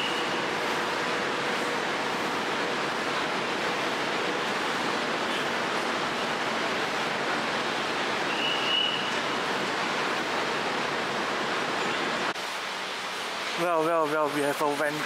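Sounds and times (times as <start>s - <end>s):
traffic: 0.0s - 13.7s.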